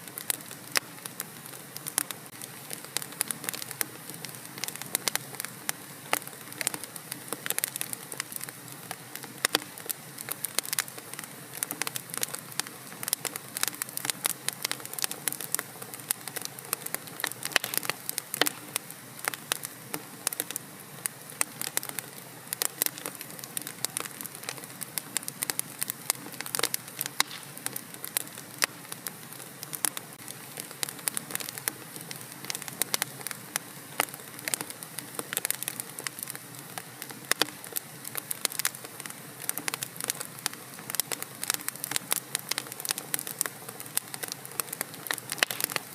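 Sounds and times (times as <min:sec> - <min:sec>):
fire hissing: 0:00.0 - 0:45.9
fireplace fire crackling: 0:00.0 - 0:45.9.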